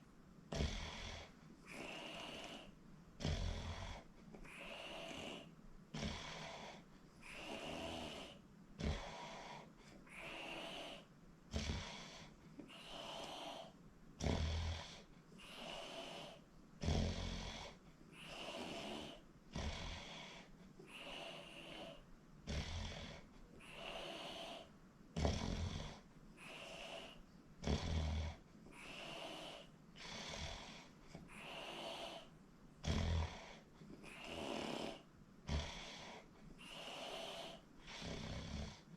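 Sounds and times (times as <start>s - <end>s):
person snoring: 0.5s - 38.9s.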